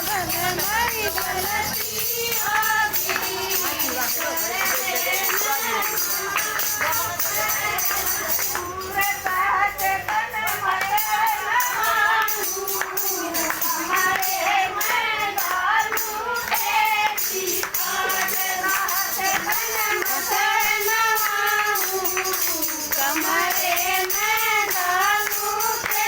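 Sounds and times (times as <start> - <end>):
jingling percussion: 0.0 - 26.0
woman singing in high voice: 0.0 - 26.0.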